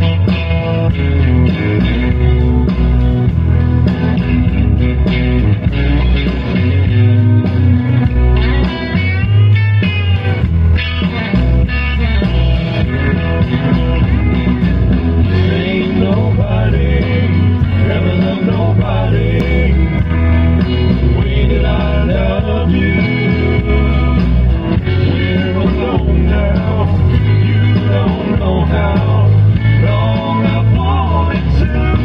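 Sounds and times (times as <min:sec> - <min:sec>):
acoustic guitar: 0:00.0 - 0:32.0
bending guitar notes: 0:00.0 - 0:32.0
heavy bass: 0:00.0 - 0:32.0.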